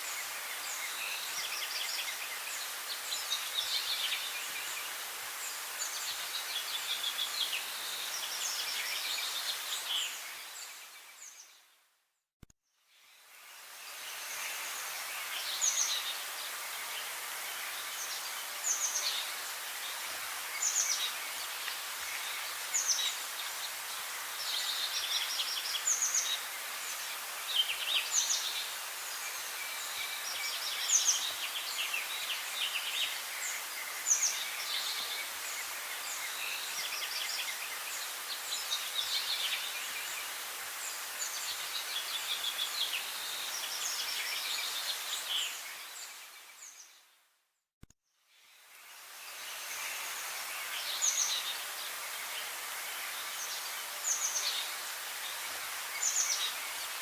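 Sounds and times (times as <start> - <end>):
background hiss: 0.0 - 11.8, 12.8 - 47.3, 48.3 - 57.0.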